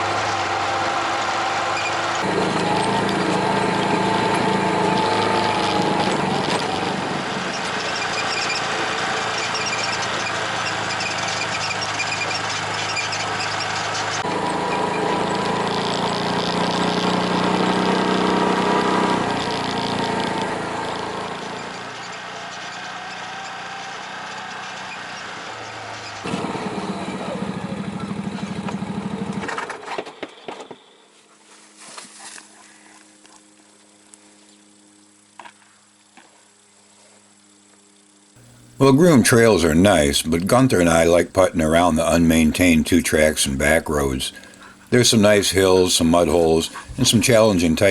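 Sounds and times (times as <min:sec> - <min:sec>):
off-road vehicle engine driving: 0:00.0 - 0:47.9.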